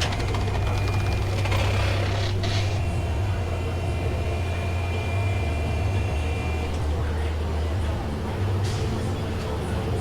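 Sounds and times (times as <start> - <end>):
low mechanical drone: 0.0 - 10.0.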